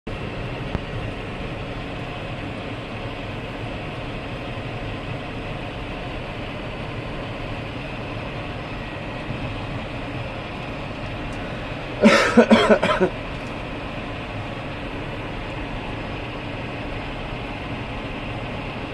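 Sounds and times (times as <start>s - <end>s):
tractor engine droning: 0.1s - 18.9s.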